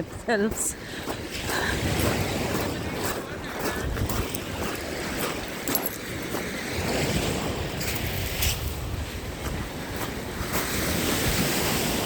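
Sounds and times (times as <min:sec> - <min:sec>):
small waves washing onto beach: 0:00.0 - 0:12.0
wind buffeting microphone: 0:00.0 - 0:12.0.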